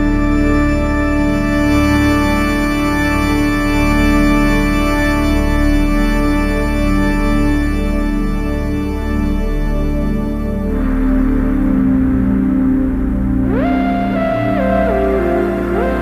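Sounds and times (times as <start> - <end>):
ambient relaxation music: 0.0 - 16.0.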